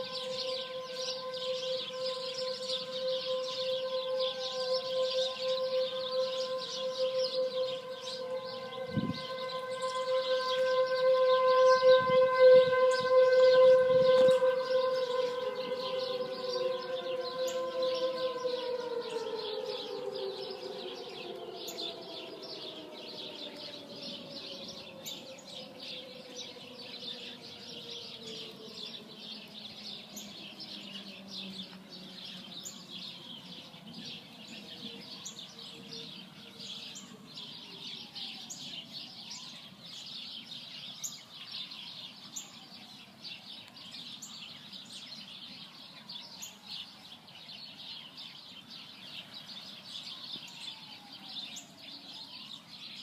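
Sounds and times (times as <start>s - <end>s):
birds chirping: 0.0s - 53.0s
distant sirens rising and falling: 0.0s - 53.0s
warning sirens winding down: 0.0s - 53.0s.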